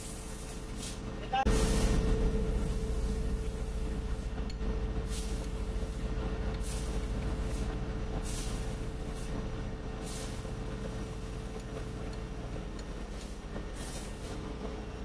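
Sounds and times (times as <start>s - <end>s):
ship machinery droning: 0.0s - 15.0s.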